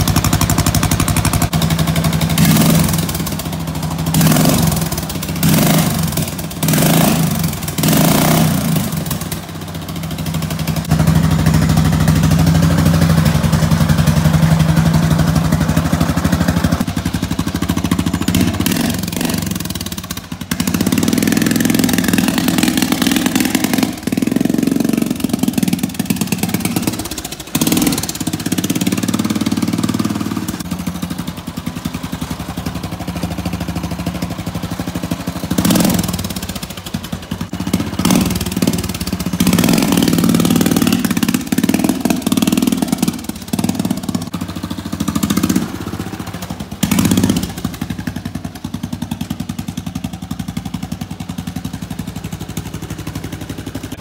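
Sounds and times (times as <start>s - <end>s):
engine popping and sputtering: 0.0s - 54.0s
lawnmower engine revving: 0.0s - 54.0s.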